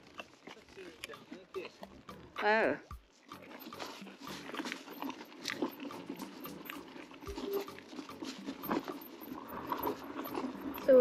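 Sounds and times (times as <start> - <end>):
bike rattling: 0.0 - 11.0
tyres crunching on rough track: 0.0 - 11.0.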